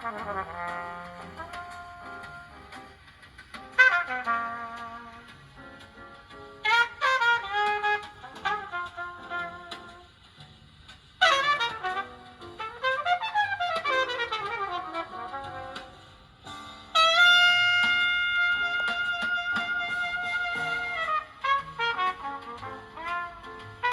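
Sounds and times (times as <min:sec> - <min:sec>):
jazz trumpet: 0:00.0 - 0:23.9.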